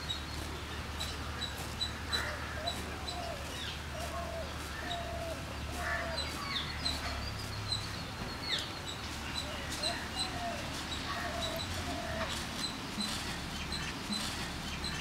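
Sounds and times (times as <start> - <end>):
lower bird calls: 0.0 - 15.0.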